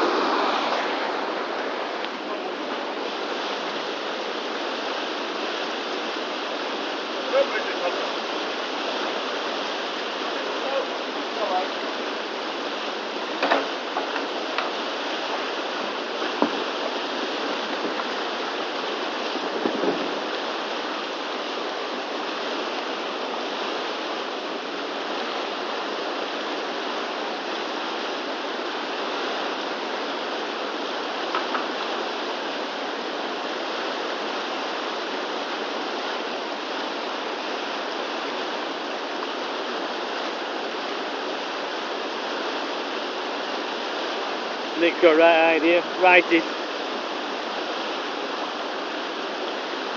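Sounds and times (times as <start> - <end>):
river rapids rushing: 0.0 - 49.9.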